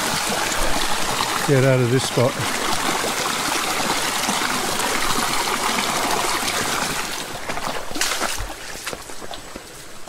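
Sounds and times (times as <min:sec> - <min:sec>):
stream running over rocks: 0:00.0 - 0:10.0.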